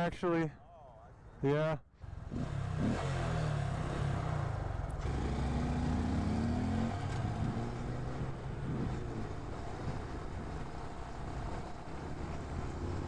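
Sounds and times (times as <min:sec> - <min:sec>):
motorcycle engine accelerating: 0:02.1 - 0:13.0.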